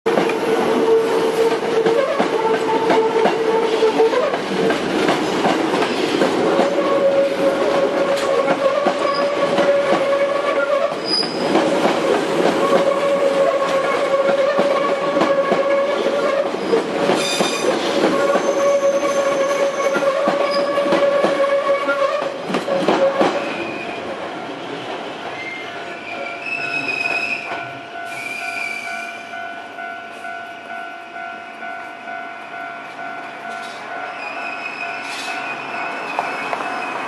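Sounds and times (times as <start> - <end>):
train wheels rumbling and clicking: 0.1 - 28.9, 29.5 - 37.0
steady train tone: 0.1 - 37.0.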